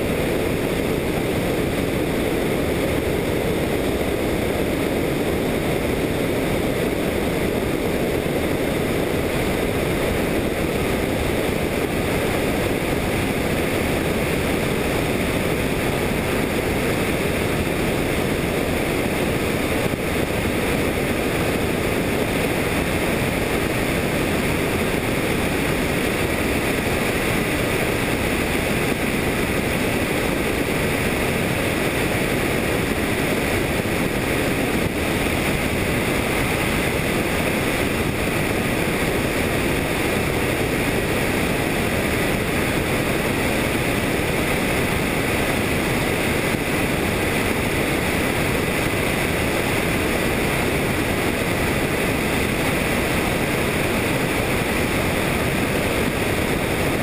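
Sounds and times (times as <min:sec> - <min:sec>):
helicopter rotor and engine noise: 0:00.0 - 0:57.0.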